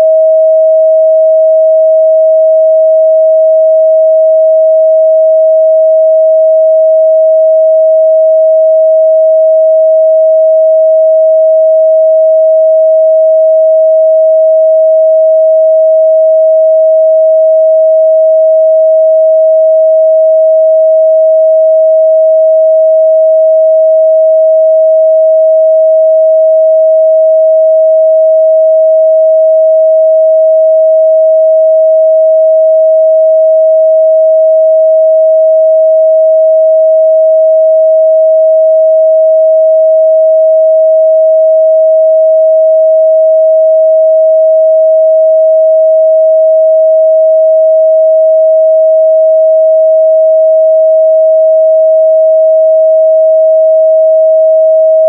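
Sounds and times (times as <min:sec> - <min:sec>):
sine-wave test tone: 0:00.0 - 0:55.0.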